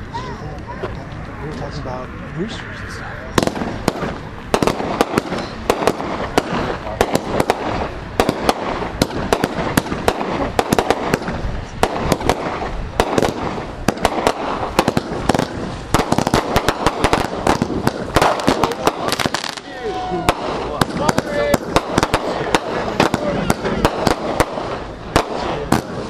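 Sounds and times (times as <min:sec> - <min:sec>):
fireworks bangs and crackles: 0:03.3 - 0:26.0.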